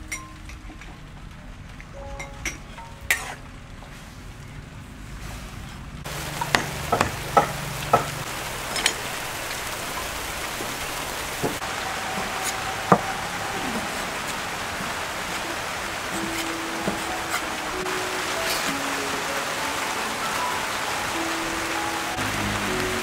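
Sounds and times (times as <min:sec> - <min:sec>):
sharp raindrop hits: 0:00.0 - 0:23.0
steady rain: 0:00.0 - 0:23.0.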